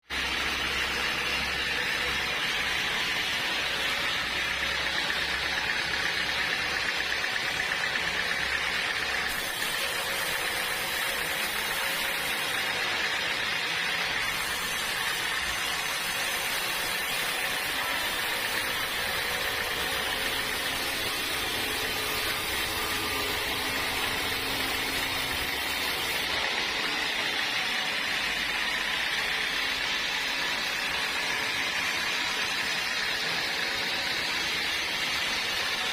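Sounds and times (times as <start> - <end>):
saw cutting through log: 0.1 - 35.9.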